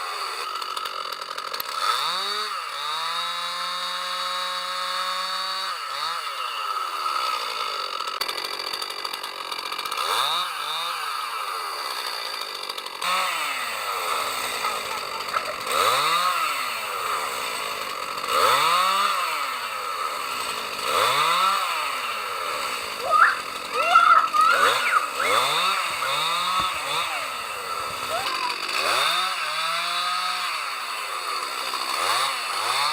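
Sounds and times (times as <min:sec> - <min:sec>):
chainsaw revving through wood: 0:00.0 - 0:32.9.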